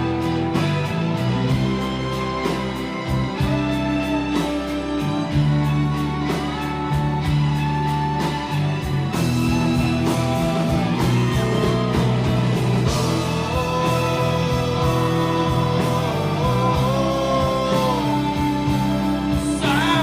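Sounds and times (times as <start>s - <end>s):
bass guitar: 0.0s - 20.0s
electric guitar bent notes: 0.0s - 20.0s
steady drums: 0.0s - 20.0s.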